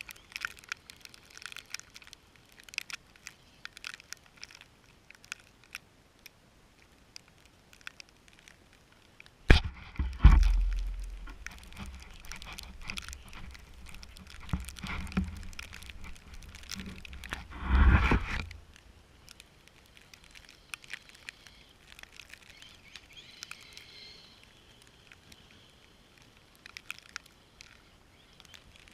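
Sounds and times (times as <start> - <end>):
snow crunching and crackling: 0.0 - 28.9.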